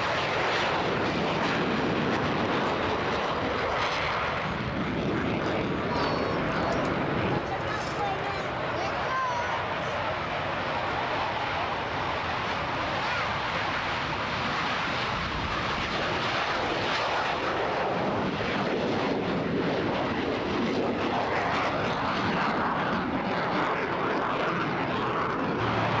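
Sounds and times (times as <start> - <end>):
jet plane taking off: 0.0 - 26.0.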